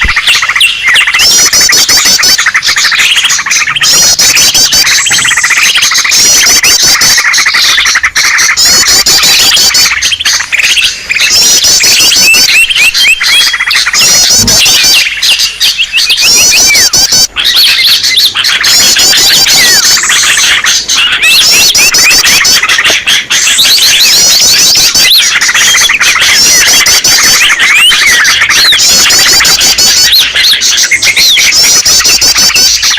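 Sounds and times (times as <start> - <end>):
small birds chirping and trilling: 0.0 - 32.9.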